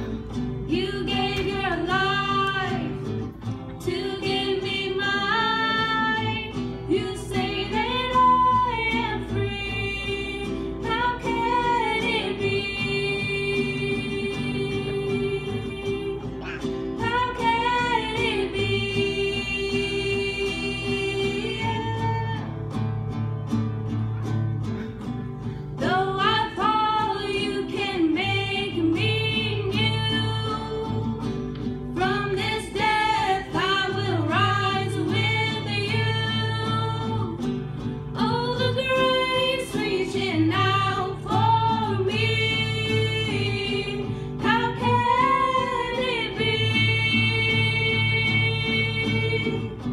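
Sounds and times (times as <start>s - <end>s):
strummed acoustic guitar: 0.0s - 49.9s
girls singing together: 0.7s - 22.5s, 25.8s - 49.9s.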